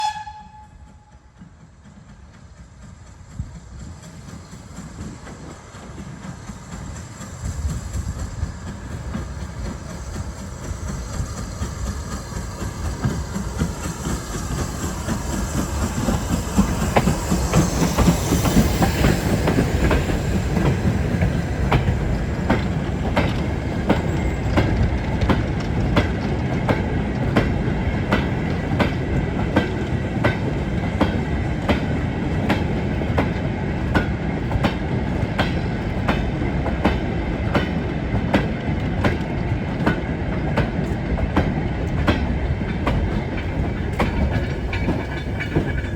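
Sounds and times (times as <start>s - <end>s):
train rumble: 0.0s - 45.9s
wheels clickety-clack on rail joints: 0.0s - 45.9s.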